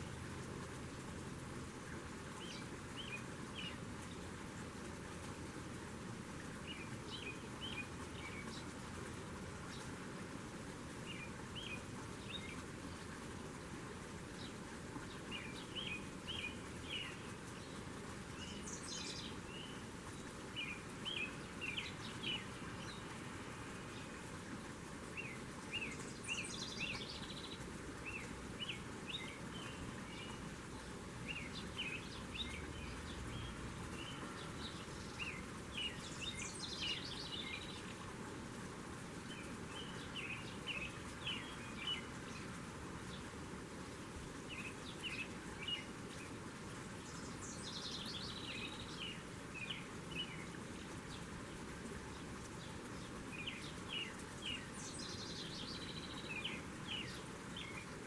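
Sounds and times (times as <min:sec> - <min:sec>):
outdoor background hiss: 0:00.0 - 0:58.0
songbirds chirping: 0:00.0 - 0:58.0.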